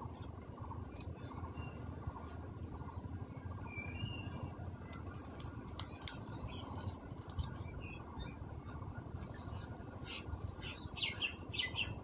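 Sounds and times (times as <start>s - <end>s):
low steady rumble: 0.0s - 12.0s
birds chirping: 0.8s - 8.5s, 9.1s - 12.0s.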